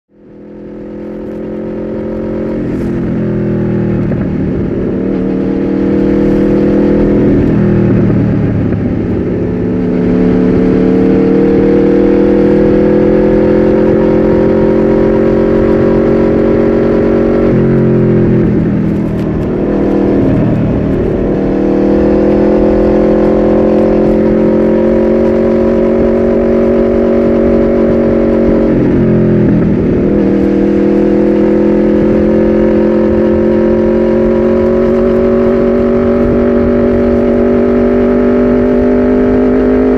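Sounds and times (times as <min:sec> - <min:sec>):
motorcycle engine revving: 0:00.1 - 0:39.9.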